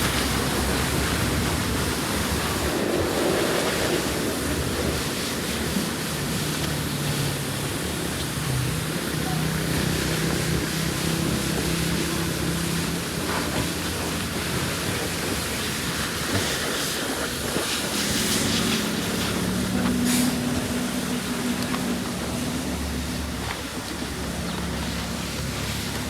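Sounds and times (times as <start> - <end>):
hissing rush: 0.0 - 25.8.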